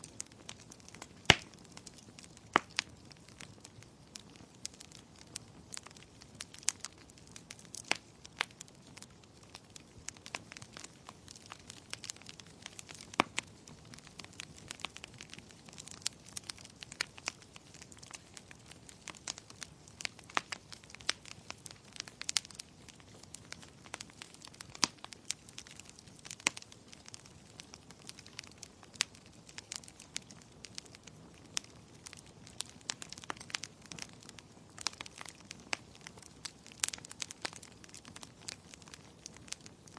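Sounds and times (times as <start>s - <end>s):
firewood crackling: 0.0s - 39.9s.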